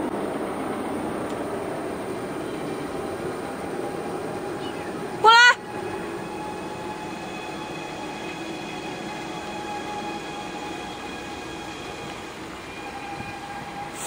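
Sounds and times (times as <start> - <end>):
high-pitched drone: 2.3 - 14.0.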